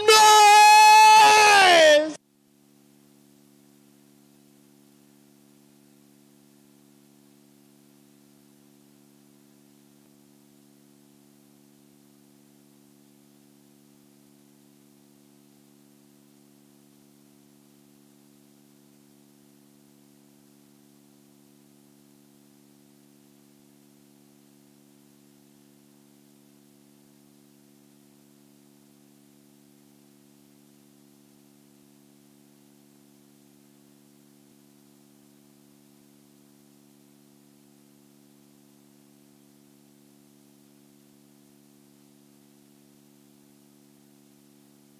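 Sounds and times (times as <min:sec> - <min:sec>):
faint electrical hum and hiss: 0:00.0 - 0:44.9.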